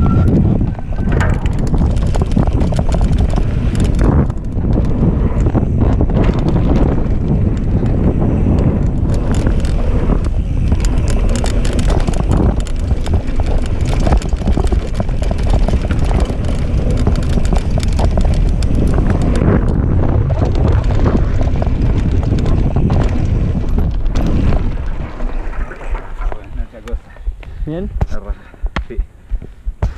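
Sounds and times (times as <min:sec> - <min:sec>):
bike chain rattling: 0:00.0 - 0:26.9
bike tyres rolling over dirt: 0:00.0 - 0:29.9
wind buffeting microphone: 0:00.0 - 0:29.9.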